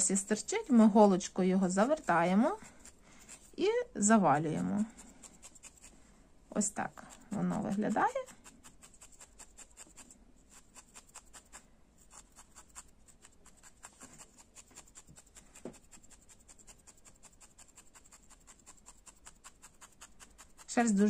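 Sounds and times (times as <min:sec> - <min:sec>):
felting needle stabbing wool: 0:00.0 - 0:05.9, 0:06.5 - 0:21.0.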